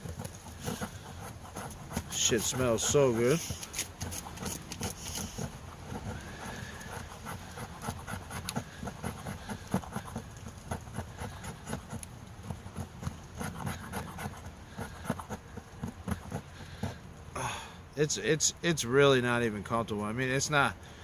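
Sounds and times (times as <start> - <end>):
file scraping wood: 0.0 - 17.0.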